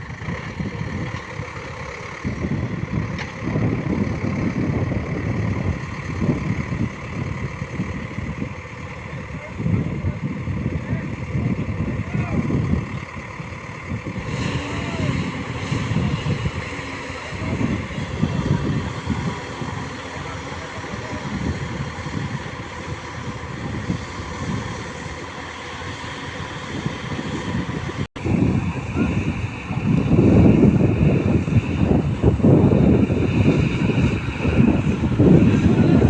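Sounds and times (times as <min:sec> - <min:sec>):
diesel machinery rumbling: 0:00.0 - 0:36.0.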